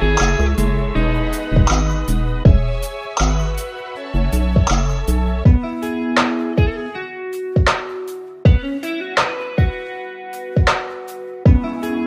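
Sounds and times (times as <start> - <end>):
plucked melody over drum beat: 0.0 - 12.0.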